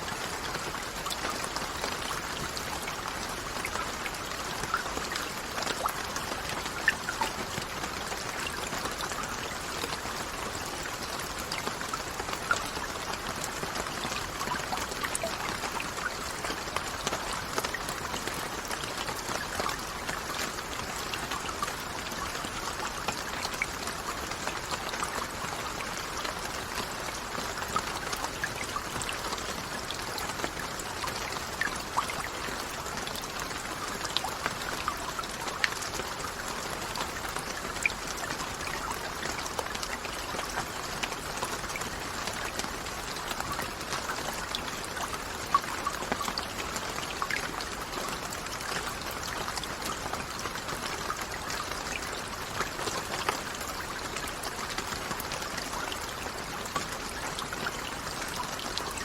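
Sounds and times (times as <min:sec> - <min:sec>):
raindrops pattering: 0:00.0 - 0:59.0
steady rainfall: 0:00.0 - 0:59.0.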